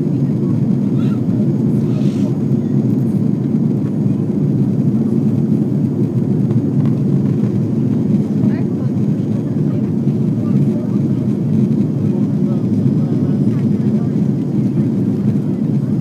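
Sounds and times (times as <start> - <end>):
airplane cabin engine drone: 0.0 - 16.0.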